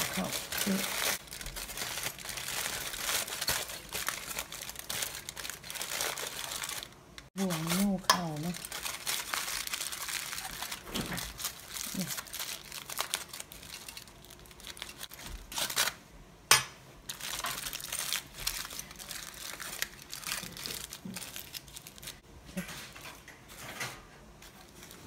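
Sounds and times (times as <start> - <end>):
aluminium foil crinkling: 0.0 - 16.0, 17.1 - 23.8, 24.4 - 25.0.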